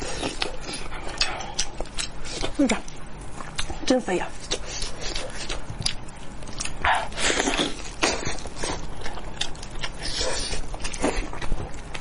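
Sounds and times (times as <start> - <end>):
chewing: 0.0 - 12.0.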